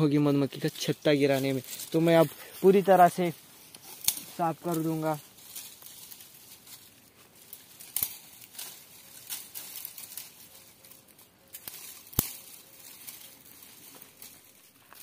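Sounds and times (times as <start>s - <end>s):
brush rustling and crackling: 0.0s - 15.0s
twigs snapping: 0.6s - 15.0s.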